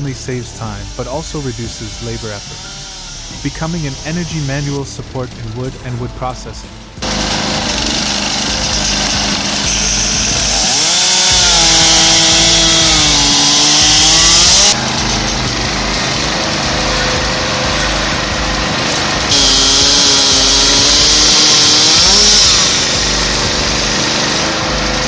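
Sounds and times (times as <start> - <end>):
chainsaw cutting logs: 0.0 - 4.8, 7.0 - 25.0
pitched whine: 0.0 - 25.0.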